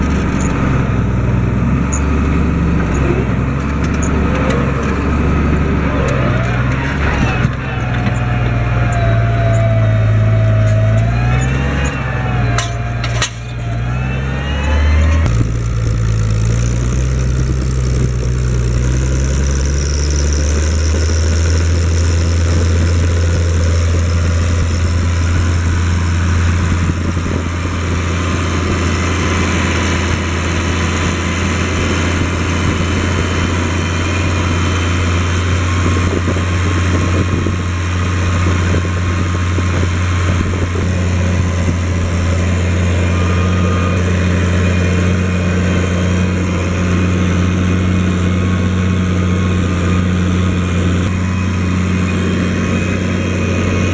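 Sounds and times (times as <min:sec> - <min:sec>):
tractor diesel engine running: 0:00.0 - 0:53.9
wavering whine: 0:03.9 - 0:16.2, 0:18.7 - 0:53.9.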